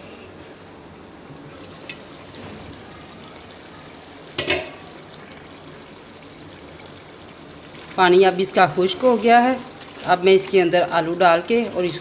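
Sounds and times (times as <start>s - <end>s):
meat sizzling in a wok: 1.5s - 12.0s.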